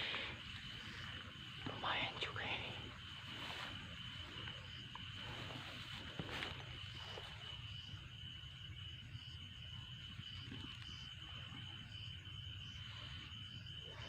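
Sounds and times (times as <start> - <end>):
insect steady high trill: 0.0 - 14.0
pulsing insect call: 0.0 - 14.0.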